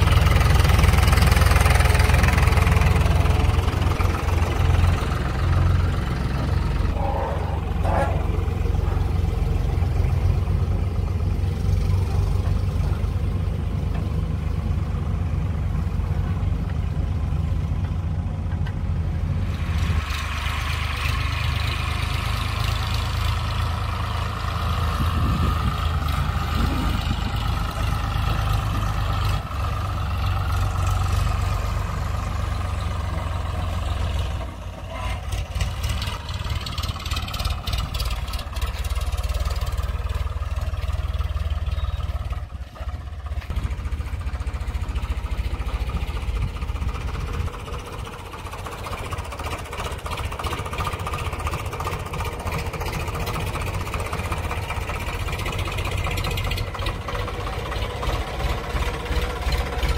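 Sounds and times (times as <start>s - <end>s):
diesel tractor engines under load: 0.0s - 59.9s.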